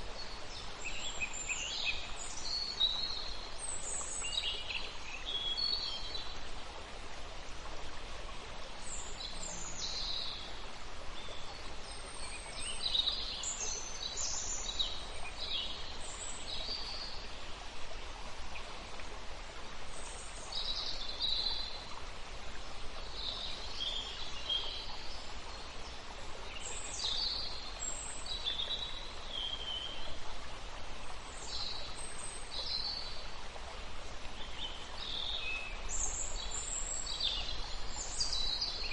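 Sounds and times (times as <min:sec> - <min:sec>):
flowing water: 0:00.0 - 0:38.9.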